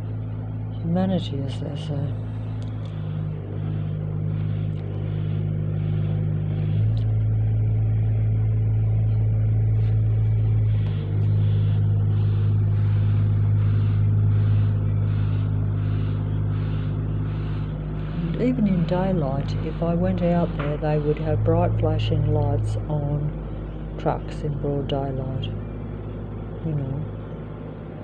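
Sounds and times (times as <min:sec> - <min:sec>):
faint even pulsing: 0:00.0 - 0:28.0
loud low mechanical drone: 0:00.0 - 0:28.0.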